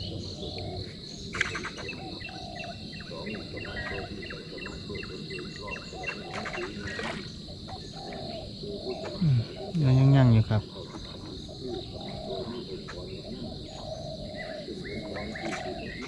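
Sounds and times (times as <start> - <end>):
bird chirping: 0.0 - 16.0
insects droning: 0.0 - 16.0.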